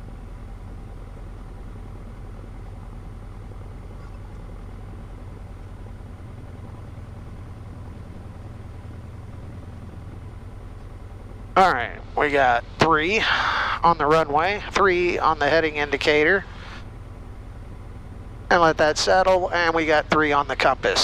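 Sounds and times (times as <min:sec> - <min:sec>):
aircraft engine idling: 0:00.0 - 0:21.0.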